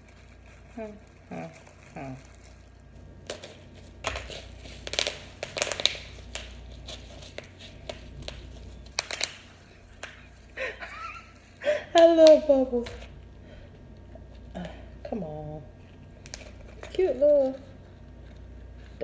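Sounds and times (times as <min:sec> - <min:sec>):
bubble wrap crinkling: 0:00.0 - 0:19.0.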